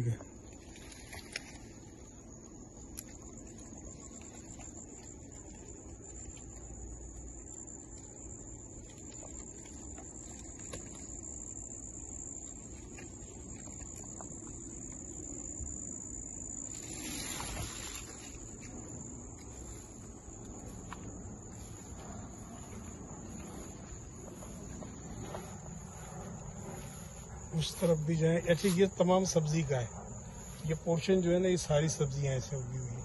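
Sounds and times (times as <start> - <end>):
leaves rustling: 0.0 - 32.8
crickets trilling: 0.0 - 33.0.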